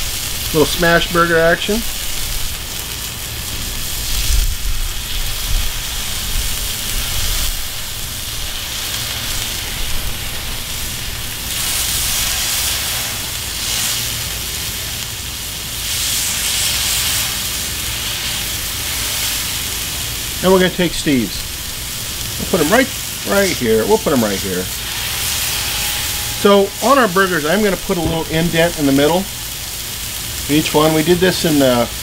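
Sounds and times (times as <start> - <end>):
meat patties sizzling on griddle: 0.0 - 32.0.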